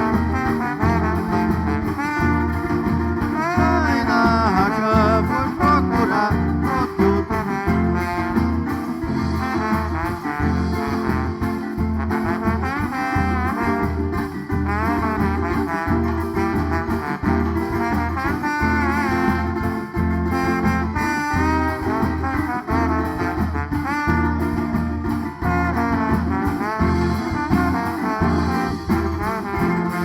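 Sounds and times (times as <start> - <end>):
instrumental band music: 0.0 - 30.0.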